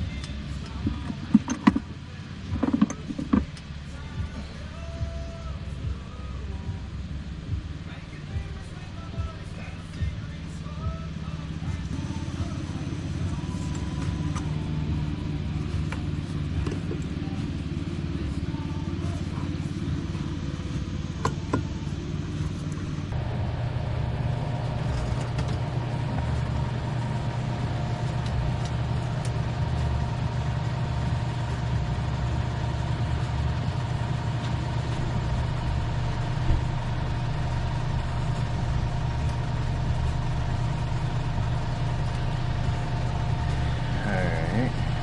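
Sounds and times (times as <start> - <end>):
small engine running: 0.0 - 45.0.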